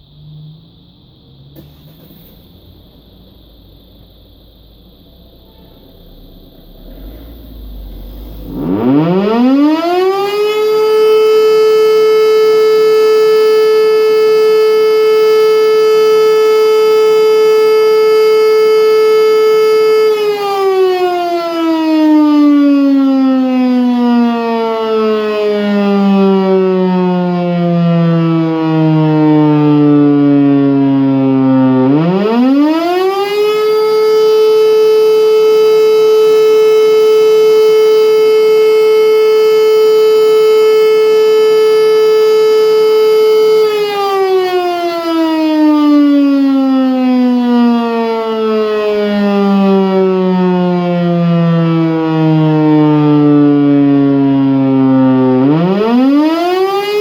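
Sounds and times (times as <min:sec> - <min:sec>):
motor siren wailing: 0:00.0 - 0:57.0.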